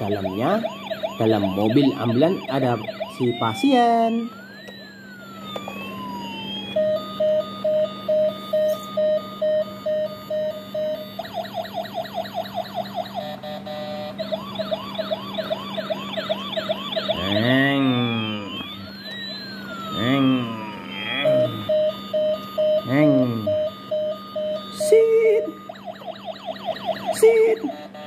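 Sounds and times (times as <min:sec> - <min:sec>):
low steady hum: 0:00.0 - 0:28.0
toy siren wailing and beeping: 0:00.0 - 0:28.0.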